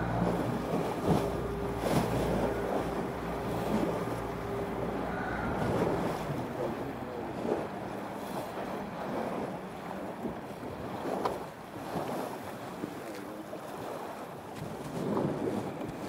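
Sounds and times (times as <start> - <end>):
water washing against boat hull: 0.0 - 16.0
wind buffeting microphone: 0.0 - 16.0.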